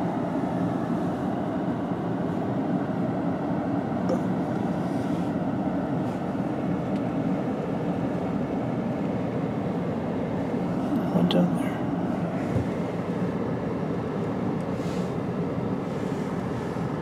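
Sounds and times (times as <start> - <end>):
car engine and road noise inside cabin: 0.0 - 17.0.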